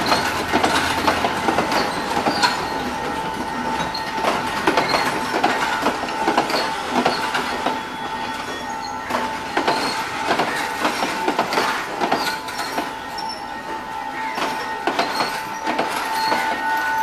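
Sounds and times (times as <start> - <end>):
high-pitched wheel squeal: 0.0 - 5.3, 6.5 - 10.8, 12.1 - 17.0
train wheels clacking over rail joints: 0.0 - 17.0.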